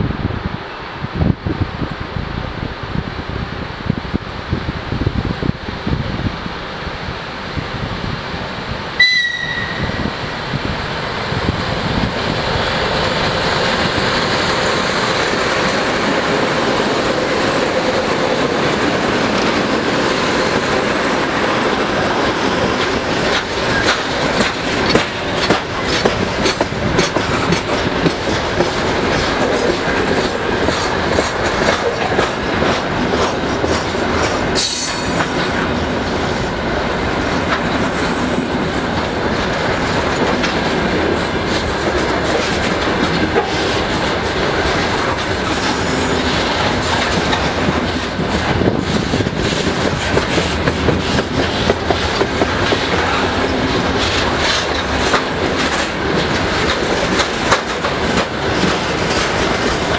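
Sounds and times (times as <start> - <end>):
diesel locomotive engines running: 3.7 - 59.9
train wheels clickety-clack: 7.4 - 59.9.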